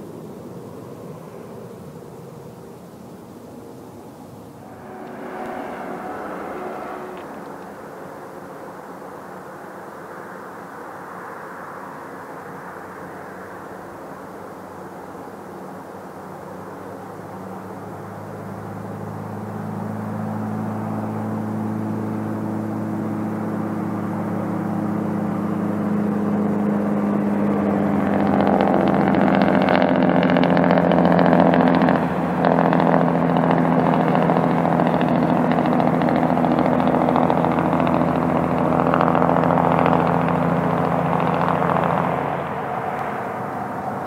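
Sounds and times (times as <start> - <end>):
locomotive engine drone: 0.0 - 44.0
rushing rumble of train: 0.0 - 44.0.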